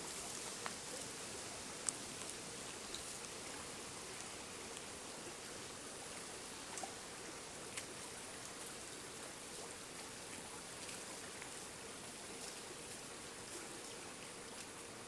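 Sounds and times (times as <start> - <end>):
faint ticks and clicks: 0.0 - 5.0, 6.1 - 7.0, 7.6 - 15.0
forest ambience hiss: 0.0 - 15.0.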